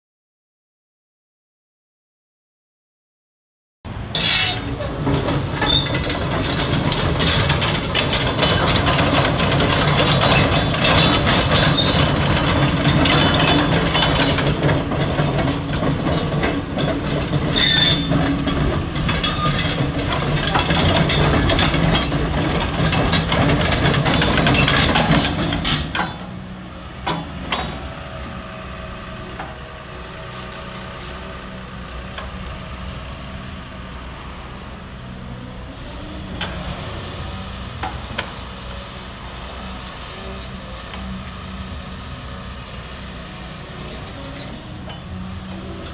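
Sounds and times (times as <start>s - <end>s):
diesel engine running: 3.9s - 45.9s
steel tracks clattering: 3.9s - 45.9s.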